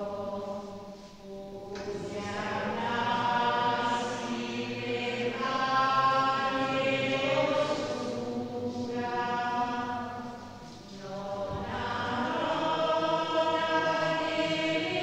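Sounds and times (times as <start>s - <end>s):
slow chant-like church music: 0.0s - 15.0s.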